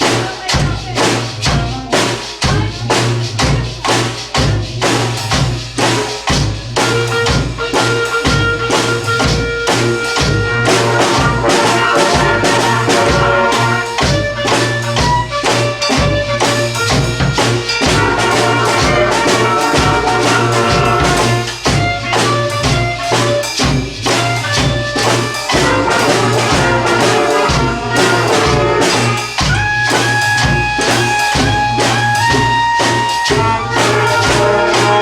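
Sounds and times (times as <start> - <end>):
brass band playing: 0.0 - 35.0
drum and percussion beat: 0.0 - 35.0.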